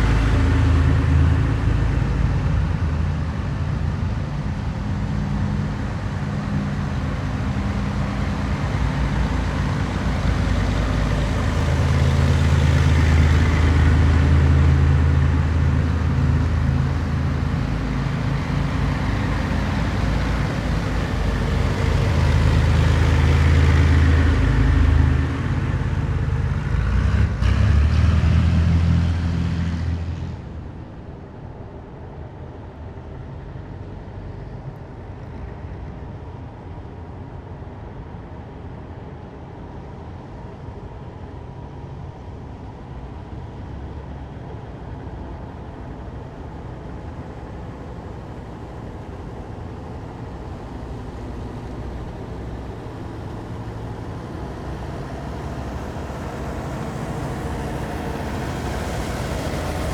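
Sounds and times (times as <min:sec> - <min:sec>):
heavy vehicle engines droning: 0:00.0 - 0:59.9
tyre and road noise: 0:00.0 - 0:59.9.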